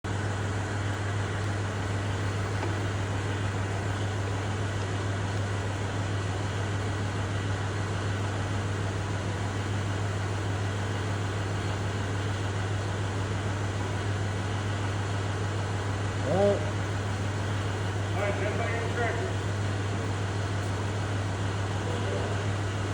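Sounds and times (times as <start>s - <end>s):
tractor diesel engine idling: 0.0s - 22.9s.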